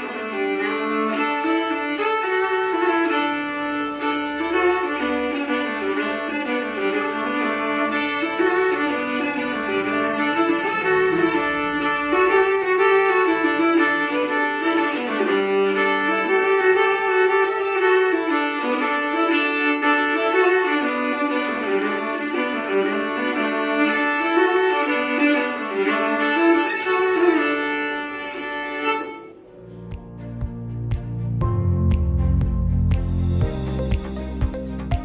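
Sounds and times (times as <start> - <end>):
viola bowed melody: 0.0 - 35.0.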